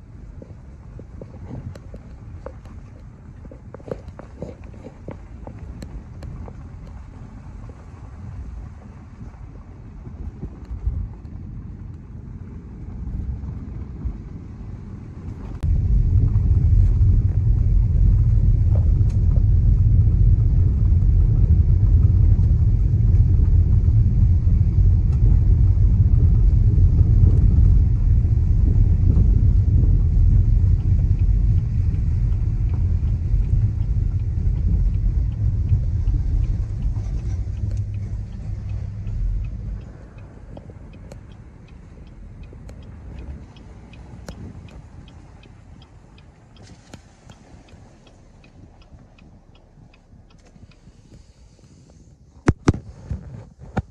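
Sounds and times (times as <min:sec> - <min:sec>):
car road rumble on gravel: 0:00.0 - 0:53.9
light ticks: 0:00.1 - 0:53.9.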